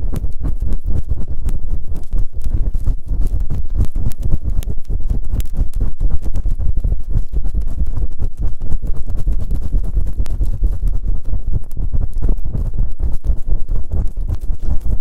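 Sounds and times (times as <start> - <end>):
rubbing and scraping on microphone: 0.0 - 15.0.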